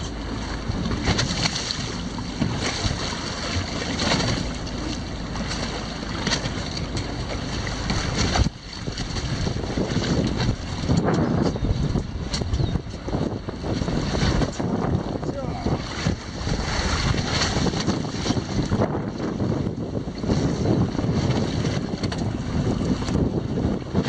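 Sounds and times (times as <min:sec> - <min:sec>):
water washing against hull: 0:00.0 - 0:24.0
wind buffeting microphone: 0:00.0 - 0:24.0.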